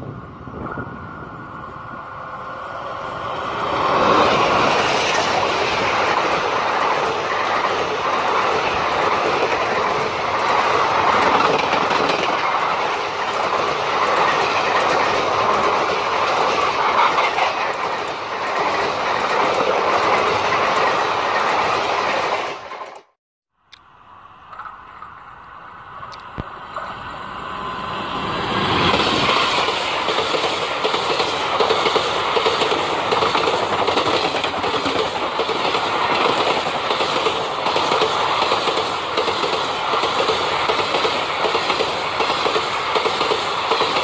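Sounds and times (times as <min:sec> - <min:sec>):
train passing at speed: 0:00.0 - 0:23.2, 0:24.0 - 0:44.0
train wheels on rails: 0:00.0 - 0:23.2, 0:24.5 - 0:44.0.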